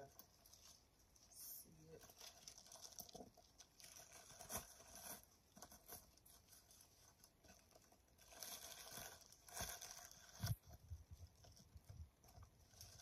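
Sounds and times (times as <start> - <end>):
faint rustling crinkles: 0.0 - 13.0.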